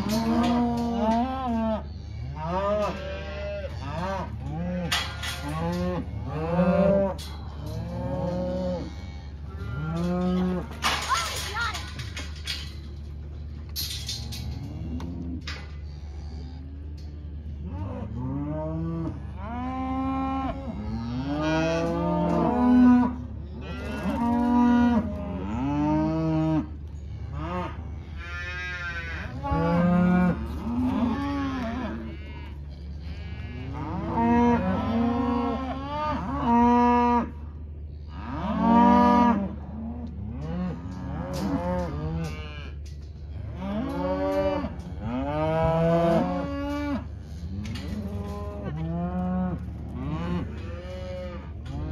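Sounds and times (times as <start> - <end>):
cows and calves bawling: 0.0 - 51.9.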